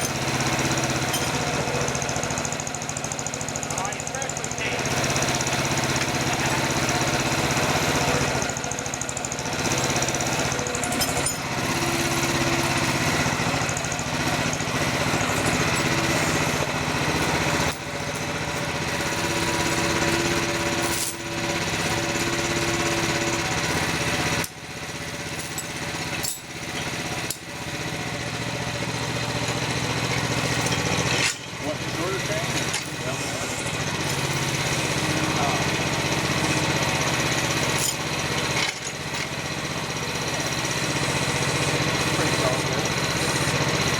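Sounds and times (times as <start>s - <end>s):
excavator engine running under load: 0.0s - 43.9s.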